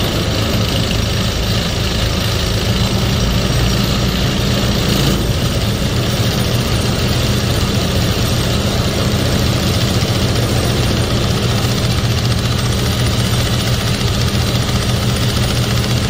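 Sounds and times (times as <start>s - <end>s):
vibratory pile hammer hum: 0.0s - 16.0s.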